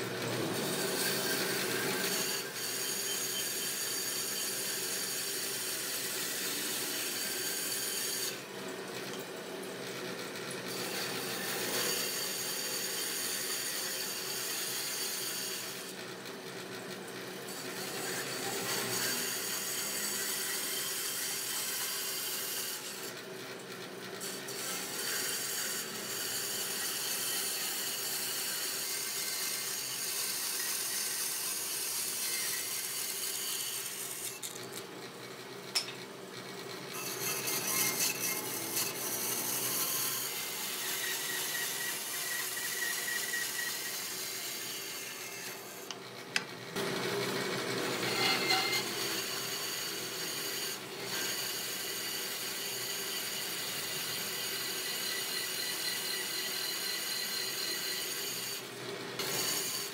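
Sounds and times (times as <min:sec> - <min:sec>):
bandsaw cutting hardwood: 0:00.0 - 0:08.5, 0:10.1 - 0:16.5, 0:17.1 - 0:23.3, 0:24.2 - 0:34.6, 0:36.9 - 0:46.1, 0:46.8 - 0:59.9.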